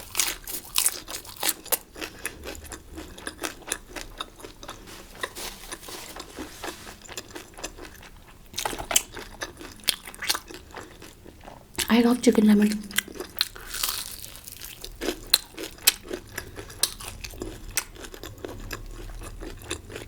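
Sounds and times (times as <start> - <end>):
crunchy chewing: 0.0 - 11.6, 12.9 - 20.0.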